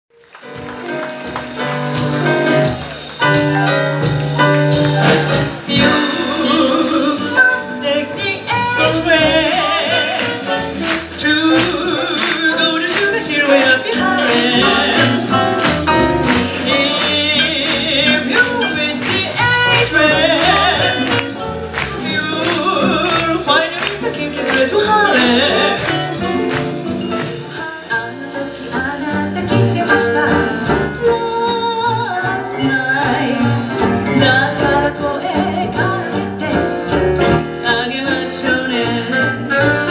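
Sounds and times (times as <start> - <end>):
swing jazz band: 0.1 - 39.9
woman singing: 5.7 - 15.4, 16.3 - 26.6, 27.5 - 39.9.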